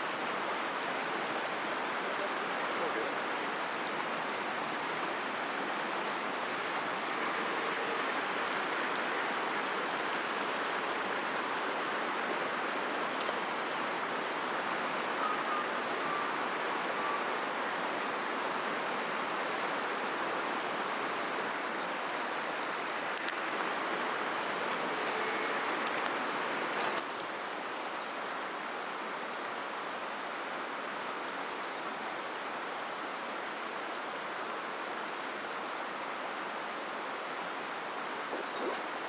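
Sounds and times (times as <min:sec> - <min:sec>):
river flowing: 0:00.0 - 0:39.0.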